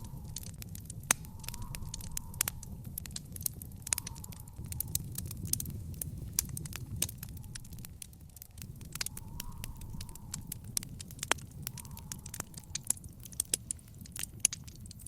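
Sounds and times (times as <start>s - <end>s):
fire pops and snaps: 0.0s - 15.0s
low steady rumble: 0.0s - 15.0s
wood fire crackling: 0.0s - 15.0s.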